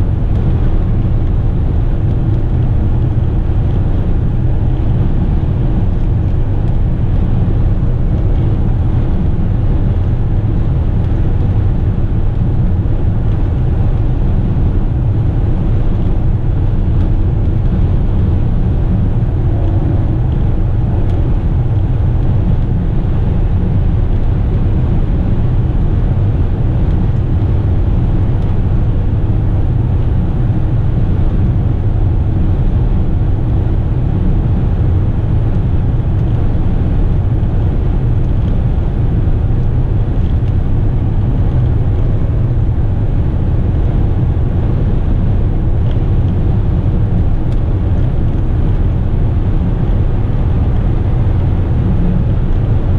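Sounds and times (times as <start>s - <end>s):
truck diesel engine drone: 0.0s - 52.9s.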